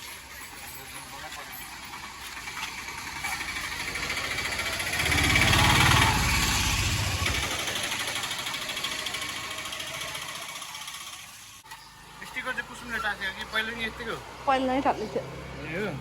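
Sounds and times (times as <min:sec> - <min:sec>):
vehicle engine passing by: 0:00.4 - 0:16.0.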